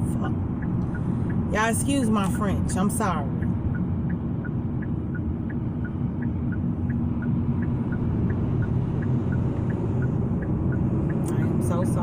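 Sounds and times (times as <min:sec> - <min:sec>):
car road and engine rumble: 0:00.0 - 0:12.0
turn signal clicking: 0:00.0 - 0:12.0.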